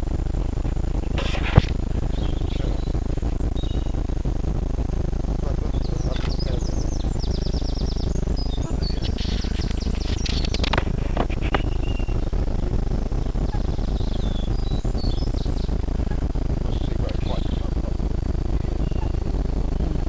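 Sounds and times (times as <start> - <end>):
sharp ticks: 0.0 - 20.0
steady low rumble: 0.0 - 20.0
songbirds singing and chirping: 0.7 - 20.0.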